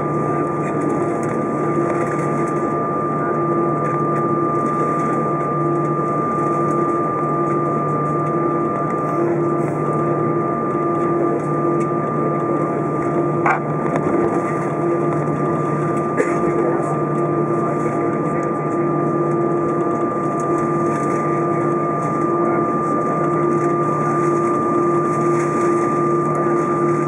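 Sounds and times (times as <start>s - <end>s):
aircraft cabin engine hum: 0.0s - 27.0s.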